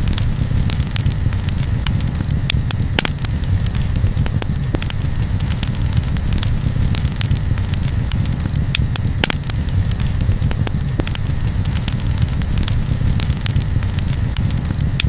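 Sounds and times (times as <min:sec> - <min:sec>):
campfire crackling and popping: 0:00.0 - 0:15.0
low rumble: 0:00.0 - 0:15.0.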